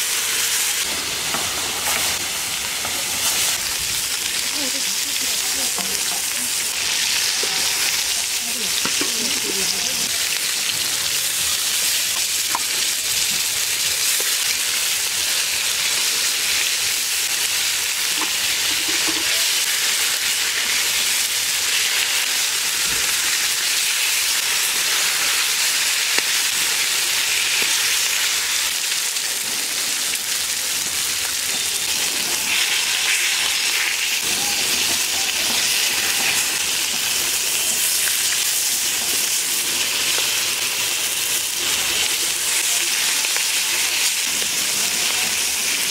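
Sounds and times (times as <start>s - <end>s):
fish frying in hot oil: 0.0s - 45.9s.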